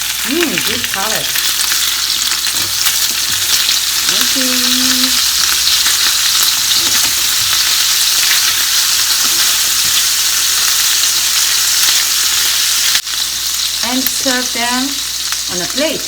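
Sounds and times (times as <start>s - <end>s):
patties sizzling in a frying pan: 0.0s - 16.0s.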